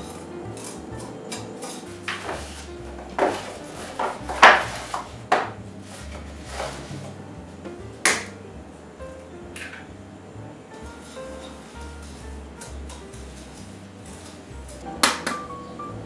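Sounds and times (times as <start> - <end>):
quiet background music: 0.0 - 16.0.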